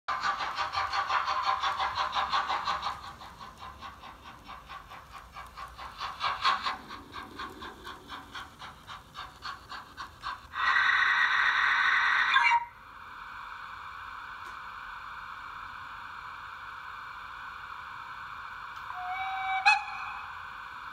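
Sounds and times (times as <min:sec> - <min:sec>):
model steam locomotive chuffing: 0:00.1 - 0:20.9.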